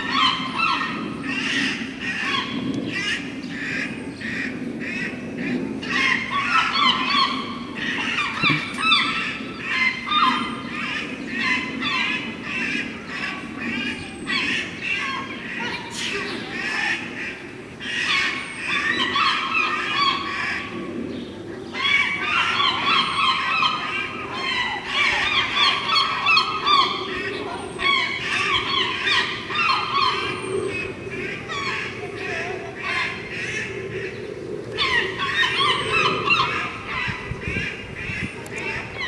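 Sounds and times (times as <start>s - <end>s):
harsh bird calls: 0.0s - 39.0s.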